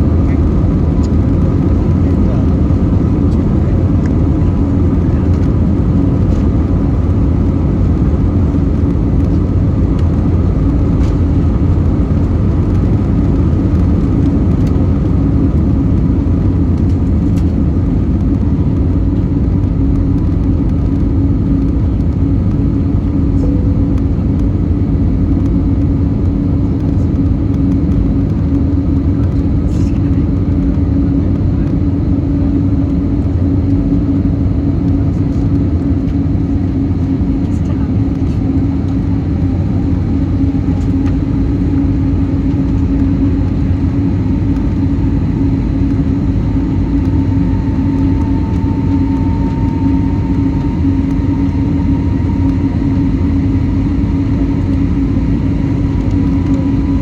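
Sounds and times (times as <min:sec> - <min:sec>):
aircraft cabin engine drone: 0:00.0 - 0:57.0
steady hum: 0:00.0 - 0:57.0.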